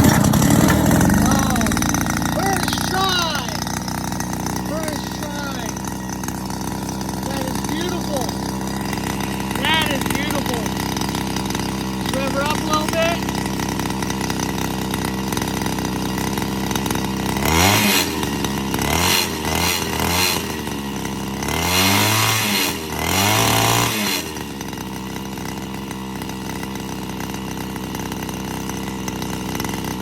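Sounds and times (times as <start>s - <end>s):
tractor engine idling and revving: 0.0s - 30.0s.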